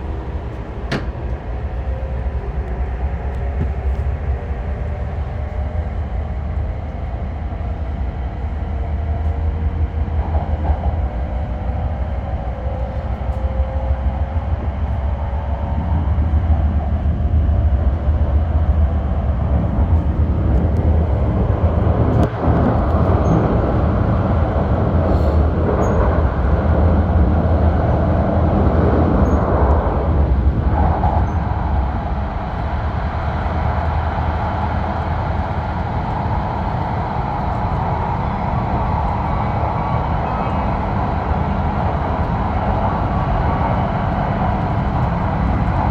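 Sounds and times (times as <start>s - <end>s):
train interior rumble: 0.0s - 45.9s.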